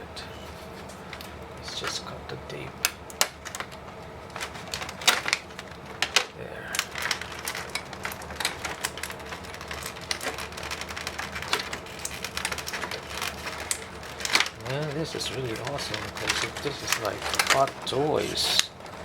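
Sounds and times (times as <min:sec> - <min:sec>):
plastic packaging crinkling: 0:00.2 - 0:19.0.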